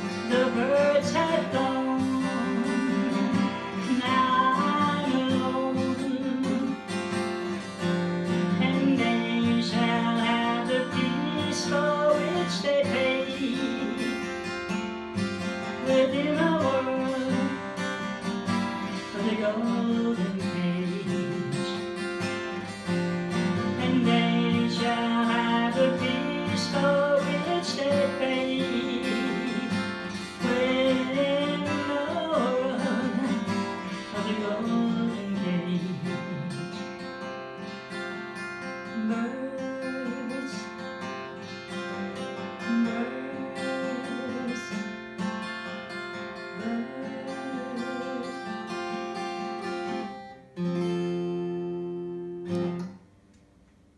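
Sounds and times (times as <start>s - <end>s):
person singing: 0.0s - 14.4s, 15.2s - 22.0s, 23.4s - 36.8s, 38.8s - 41.1s, 41.8s - 45.0s, 46.2s - 50.0s
acoustic guitar strumming: 0.0s - 53.7s.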